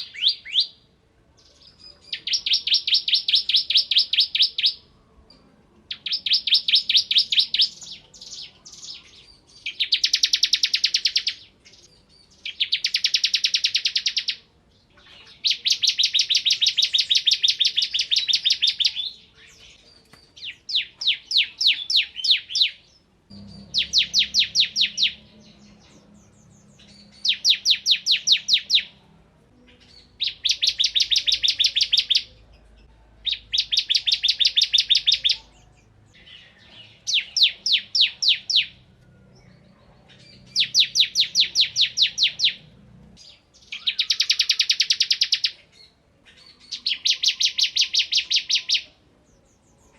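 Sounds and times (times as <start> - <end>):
bird singing rapid chirps: 0.0 - 0.8, 1.4 - 4.9, 5.9 - 29.0, 29.6 - 49.9.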